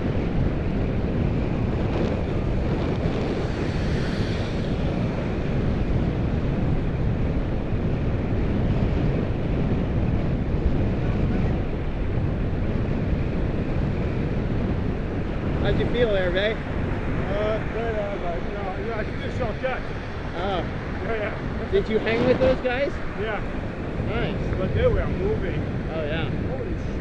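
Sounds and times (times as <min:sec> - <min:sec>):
bicycle ride hum: 0:00.0 - 0:27.0
wind rushing over microphone: 0:00.0 - 0:27.0.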